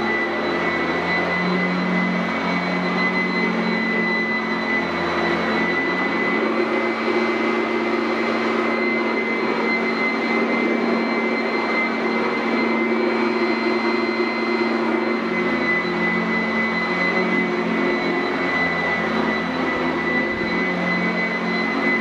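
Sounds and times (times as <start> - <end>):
upright vacuum running over carpet: 0.0 - 22.0.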